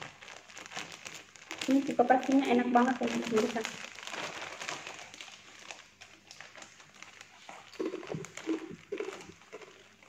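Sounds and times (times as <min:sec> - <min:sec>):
crunchy chips being chewed: 0:00.0 - 0:10.0
plastic bag crinkling: 0:00.0 - 0:10.0.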